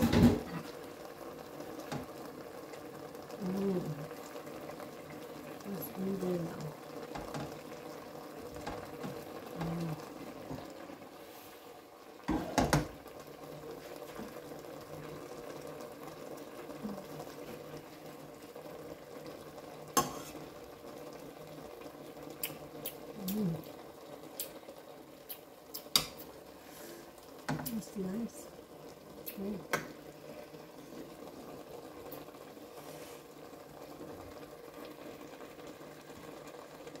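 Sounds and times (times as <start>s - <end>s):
pot bubbling: 0.0s - 37.0s.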